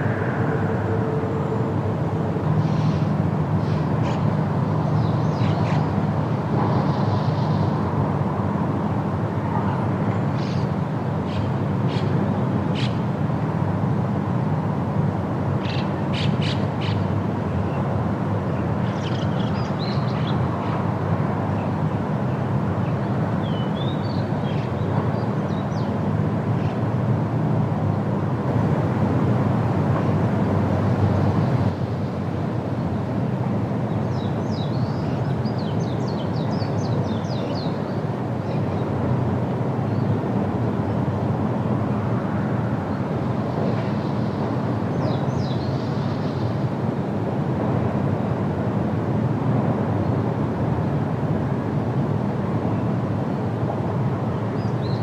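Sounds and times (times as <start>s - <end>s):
wind through a forest: 0.0s - 55.0s.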